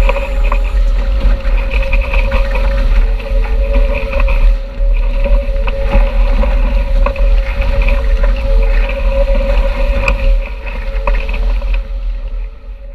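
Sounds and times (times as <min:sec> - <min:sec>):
steady high hum: 0:00.0 - 0:12.9
water rushing past hulls: 0:00.0 - 0:12.9
wind buffeting microphone: 0:00.0 - 0:12.9.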